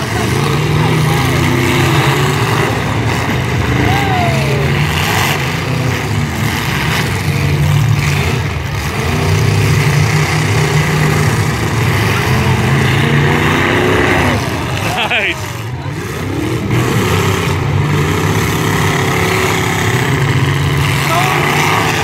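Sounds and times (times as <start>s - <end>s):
car engines revving loudly: 0.0s - 22.0s.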